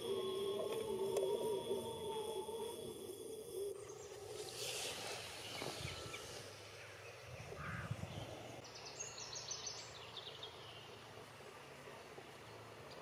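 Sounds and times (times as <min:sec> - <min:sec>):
faint bird calls: 0:00.0 - 0:11.0
outdoor background noise: 0:00.0 - 0:13.0.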